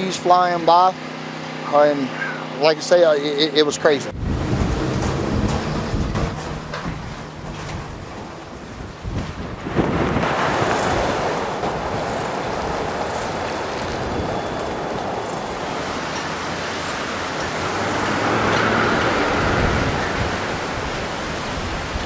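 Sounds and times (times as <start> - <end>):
strong wind and driven water: 0.0 - 22.0
wind buffeting microphone: 4.1 - 22.0.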